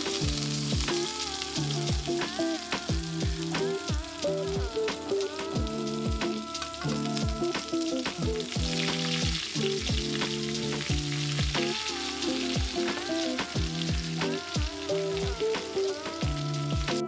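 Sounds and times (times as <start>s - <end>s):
background music with steady beat: 0.0s - 17.0s
steak sizzling in butter: 0.0s - 17.0s.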